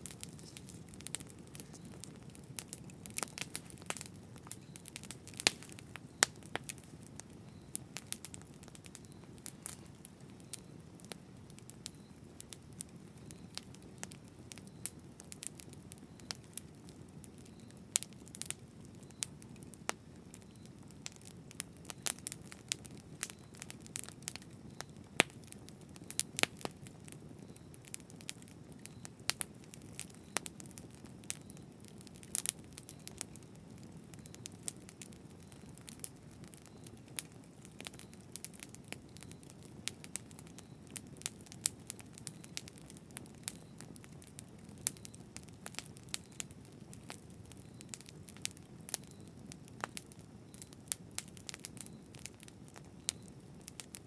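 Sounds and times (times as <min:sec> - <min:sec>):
wood crackling and popping: 0:00.0 - 0:54.0.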